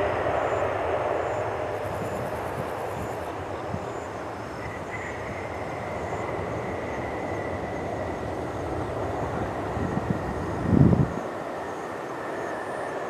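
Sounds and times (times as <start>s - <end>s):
jet engines rumbling: 0.0s - 13.0s
thin steady engine whine: 0.0s - 13.0s.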